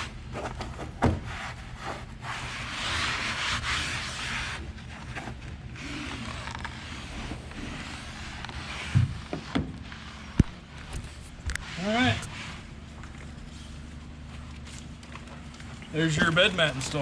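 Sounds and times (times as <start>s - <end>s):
mat scuffing and rubbing: 0.0s - 14.4s.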